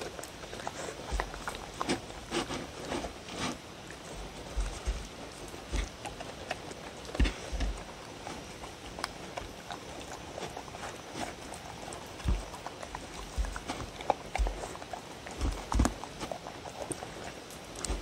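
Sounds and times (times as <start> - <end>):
dogs licking and chewing: 0.0 - 18.0.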